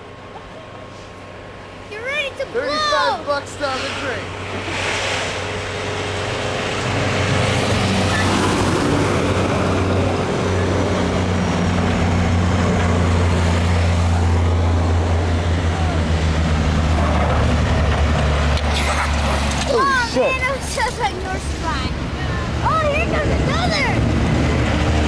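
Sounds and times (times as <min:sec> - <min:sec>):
truck engine passing: 0:00.0 - 0:25.0
snow hissing under plow blade: 0:00.8 - 0:21.9.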